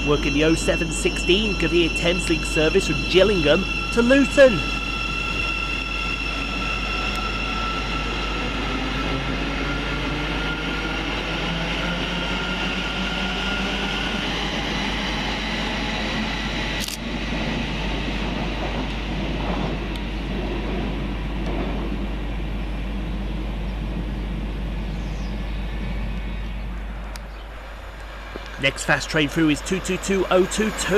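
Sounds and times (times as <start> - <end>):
electric train traction whine: 0.0 - 30.9
train rolling noise: 0.0 - 30.9.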